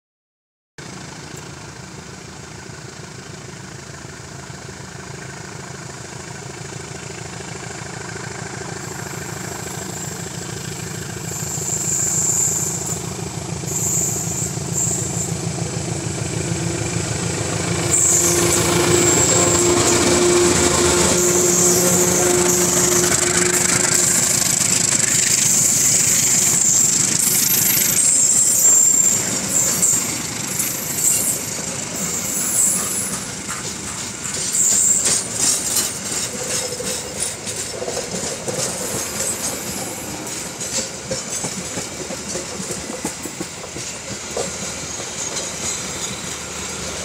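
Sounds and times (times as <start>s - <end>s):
diesel locomotive passing: 0.8s - 47.0s
coaches running on rails: 0.9s - 47.0s.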